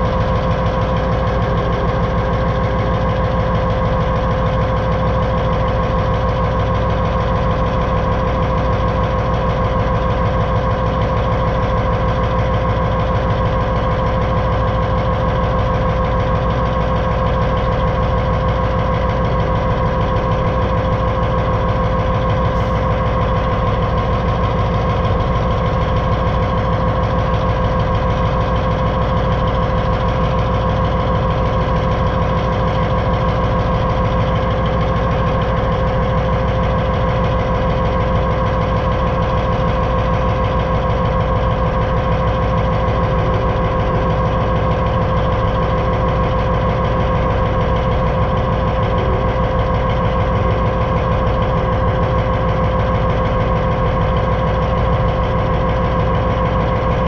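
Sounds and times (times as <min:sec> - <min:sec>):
diesel locomotive rumbling: 0:00.0 - 0:57.0
steady whine: 0:00.0 - 0:57.0.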